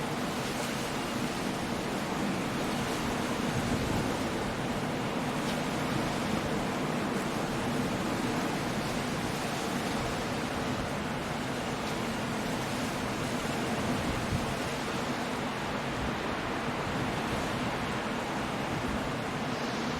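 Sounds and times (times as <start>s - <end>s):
rain in the wind: 0.0s - 19.9s.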